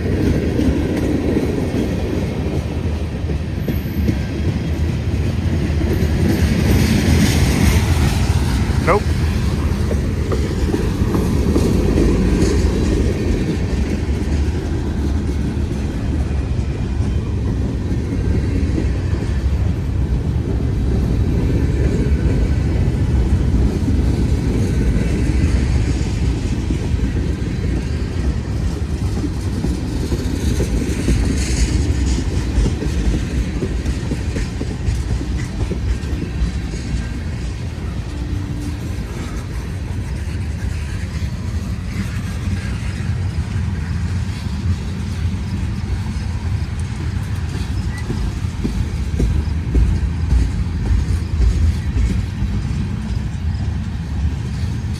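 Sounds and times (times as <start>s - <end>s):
freight train wheels rumbling on rail: 0.0s - 54.9s.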